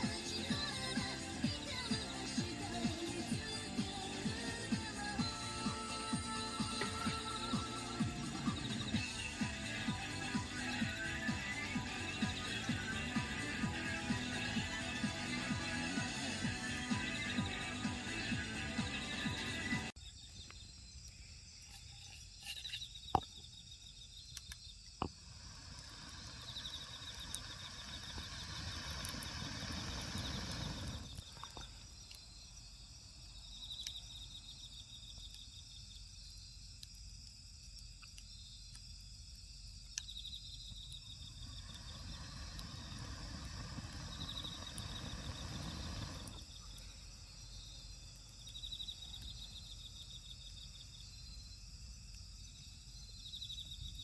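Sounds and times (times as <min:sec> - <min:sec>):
insect chirping in pulsed trills: 0:00.0 - 0:54.0.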